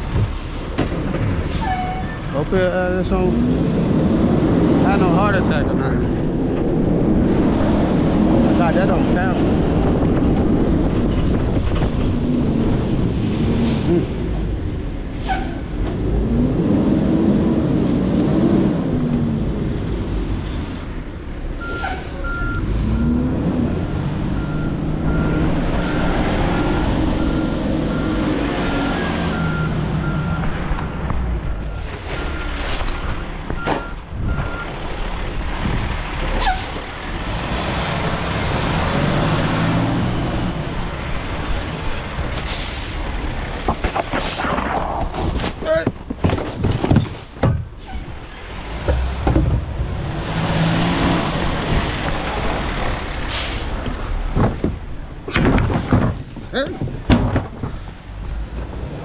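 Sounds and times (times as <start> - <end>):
garbage truck engine revving: 0.0 - 44.7, 47.2 - 57.8.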